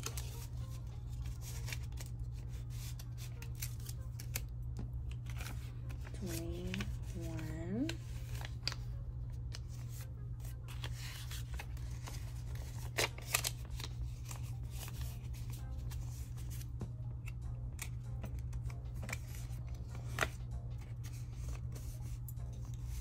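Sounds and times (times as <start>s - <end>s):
paper bills rustling: 0.0s - 23.0s.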